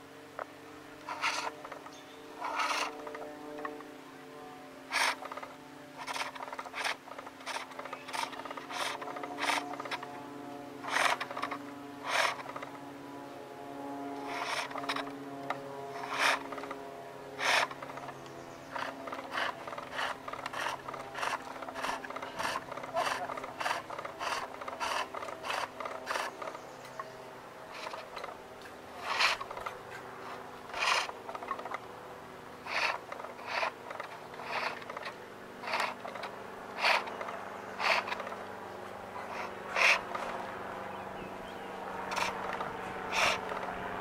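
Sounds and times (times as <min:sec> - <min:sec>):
chisel cutting wood on lathe: 0:01.0 - 0:03.8, 0:04.9 - 0:10.2, 0:10.8 - 0:12.7, 0:14.2 - 0:26.8, 0:27.7 - 0:31.8, 0:32.6 - 0:38.5, 0:39.2 - 0:40.5, 0:42.0 - 0:43.8.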